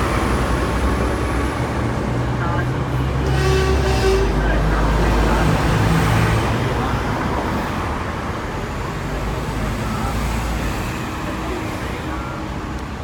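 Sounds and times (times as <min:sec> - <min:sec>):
road traffic noise: 0:00.0 - 0:13.0
tram rumbling: 0:00.0 - 0:13.0.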